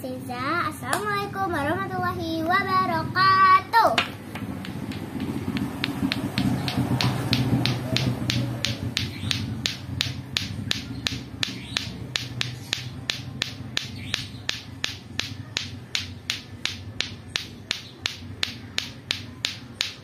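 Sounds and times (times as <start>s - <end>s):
plastic balls clacking: 4.0s - 20.0s.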